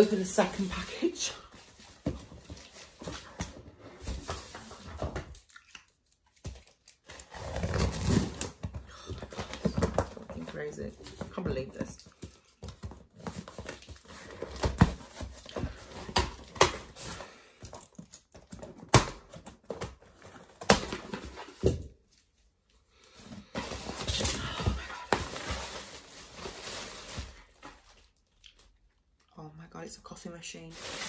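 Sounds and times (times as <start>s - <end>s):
packaging rustling and scraping: 0.0s - 5.4s, 6.6s - 22.4s, 23.0s - 28.7s, 30.6s - 31.0s.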